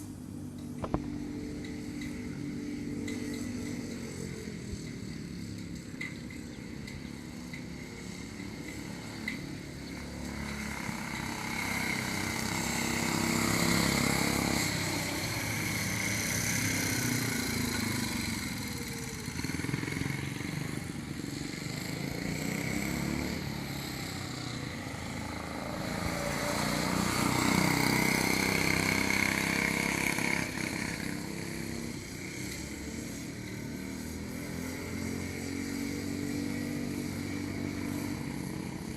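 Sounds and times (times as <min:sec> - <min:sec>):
small gasoline engines racing: 0:00.0 - 0:38.9.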